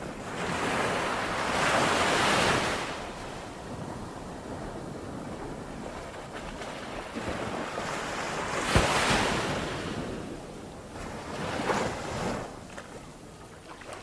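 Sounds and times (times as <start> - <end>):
ocean waves crashing: 0.0 - 12.7.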